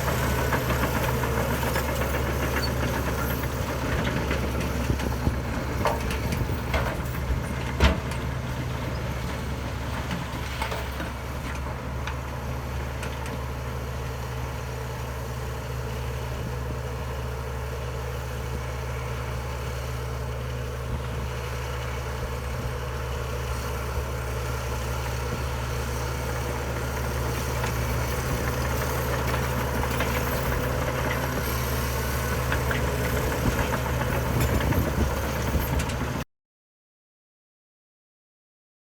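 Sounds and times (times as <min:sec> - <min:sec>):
heavy diesel engine running: 0:00.0 - 0:36.2.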